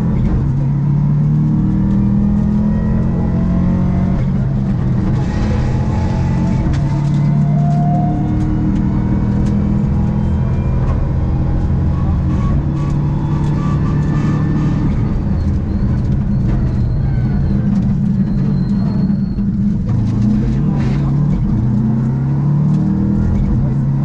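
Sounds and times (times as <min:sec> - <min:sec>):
car engine running: 0:00.0 - 0:24.0
road and tyre noise: 0:00.0 - 0:24.0.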